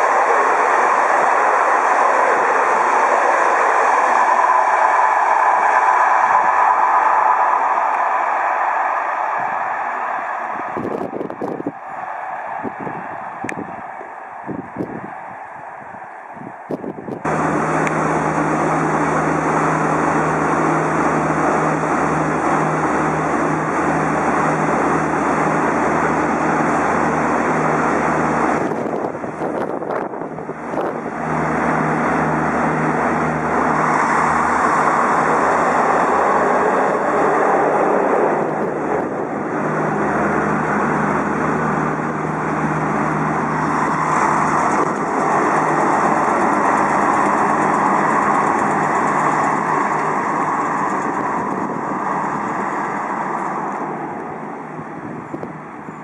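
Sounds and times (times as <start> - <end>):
diesel train engine accelerating: 0.0 - 56.0.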